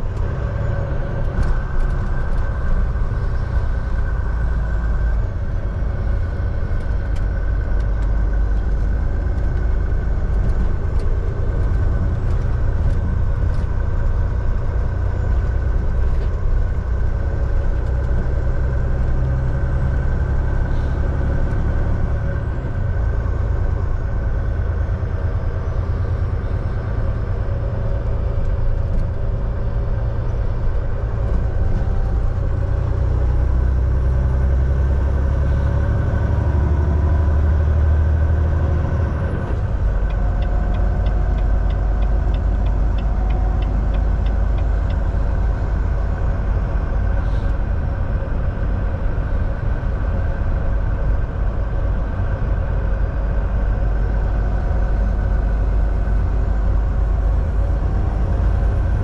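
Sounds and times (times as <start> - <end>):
road noise: 0.0 - 59.0
truck diesel engine rumble: 0.0 - 59.0.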